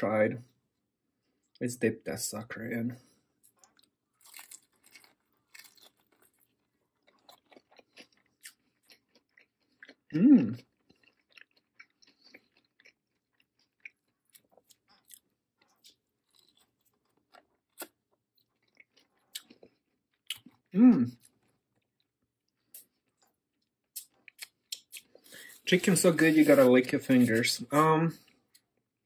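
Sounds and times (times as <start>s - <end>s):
crunching fried chicken: 3.4s - 28.8s.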